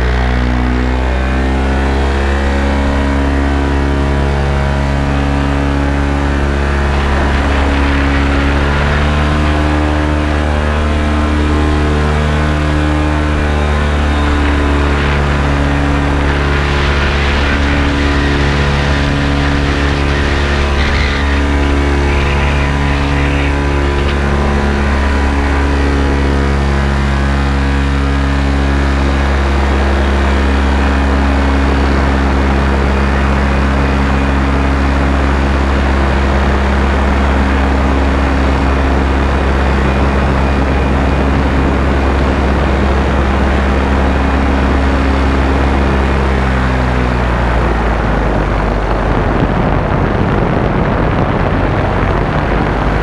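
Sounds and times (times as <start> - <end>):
paramotor engine and propeller: 0.0 - 53.0
rushing wind noise: 0.0 - 53.0.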